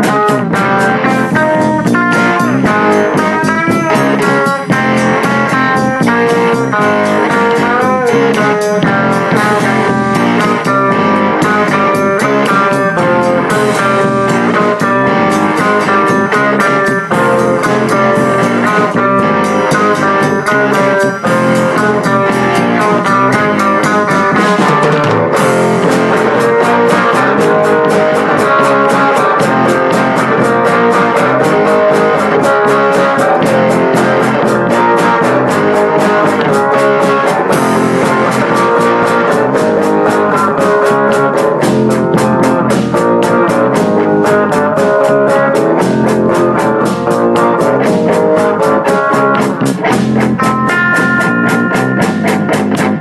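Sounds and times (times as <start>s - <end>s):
blues-rock guitar instrumental: 0.0s - 53.0s.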